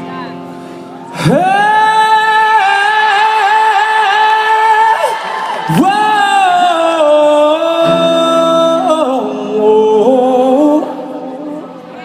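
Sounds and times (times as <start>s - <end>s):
voice singing long wordless notes: 1.1s - 12.0s.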